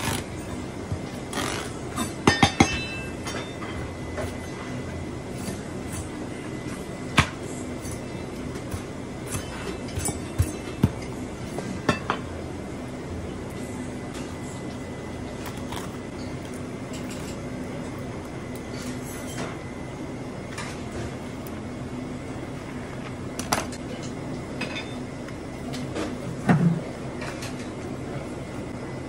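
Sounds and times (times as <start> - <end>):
background hum: 0.0 - 29.0.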